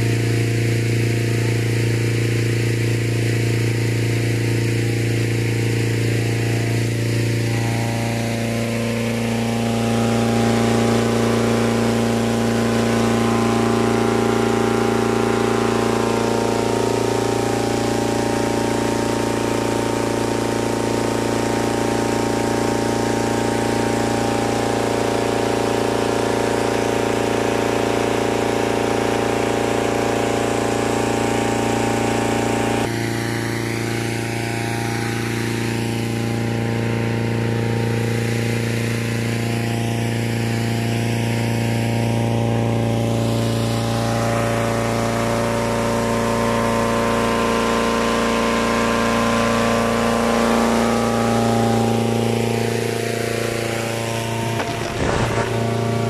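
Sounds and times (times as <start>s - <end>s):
engine-driven inflator fan running: 0.0s - 56.0s.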